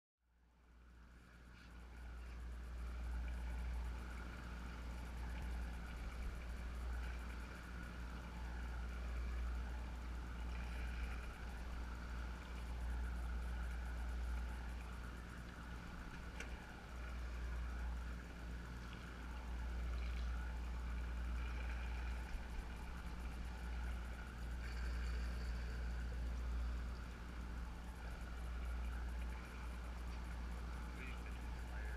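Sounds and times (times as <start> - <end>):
boat engine rumbling: 0.6 - 31.9.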